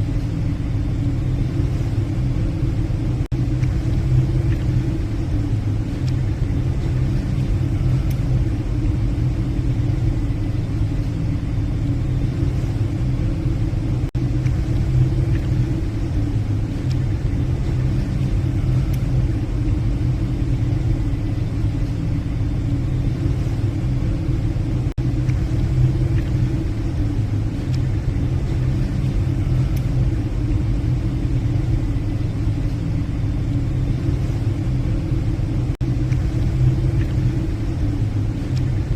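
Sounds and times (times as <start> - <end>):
ship engines droning: 0.0 - 38.9.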